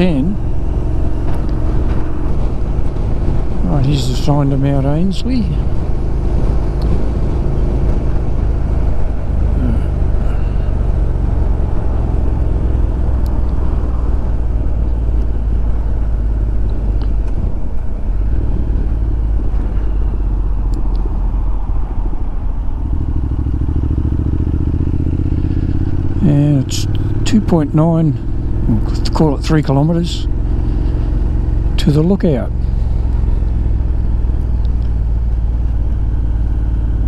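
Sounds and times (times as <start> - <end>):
motorcycle engine droning: 0.0 - 37.0
road noise: 0.0 - 37.0.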